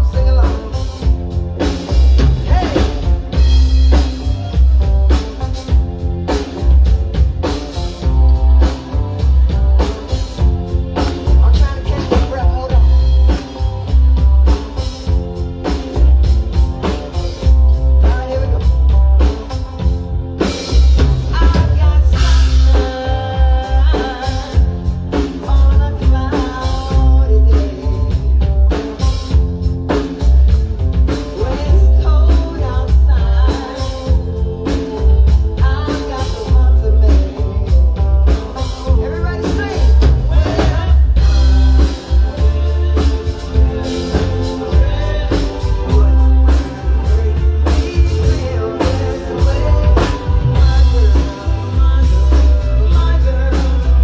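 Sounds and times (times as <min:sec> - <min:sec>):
drum kit beat: 0:00.0 - 0:54.0
live band playing: 0:00.0 - 0:54.0
person singing: 0:00.0 - 0:54.0.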